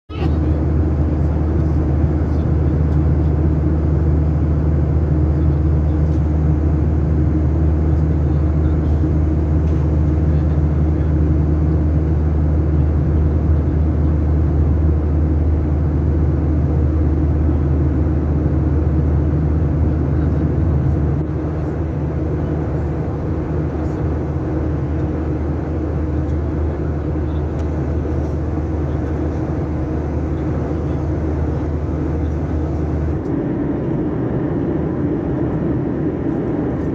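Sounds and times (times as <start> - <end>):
airliner engine drone in cabin: 0.1 - 36.9.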